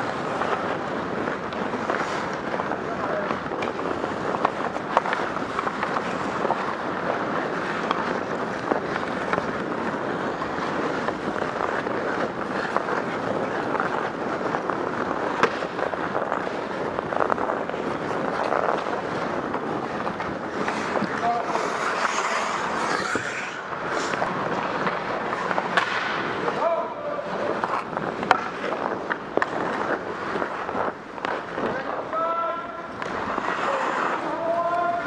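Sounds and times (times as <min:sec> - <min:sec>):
skate blades scraping on ice: 0:00.0 - 0:35.0.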